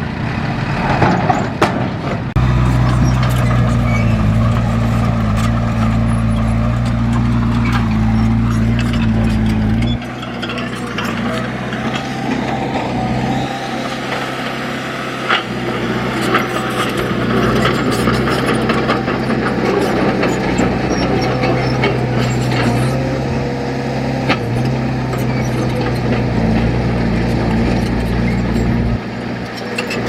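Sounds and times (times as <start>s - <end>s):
heavy diesel machine running: 0.0s - 30.0s.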